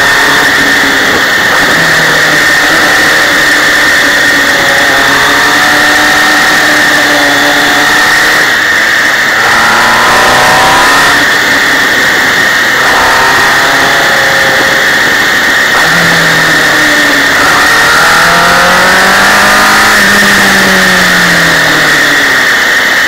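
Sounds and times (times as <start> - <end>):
motorcycle engine running: 0.0 - 23.0
road noise: 0.0 - 23.0
wind noise: 0.0 - 23.0.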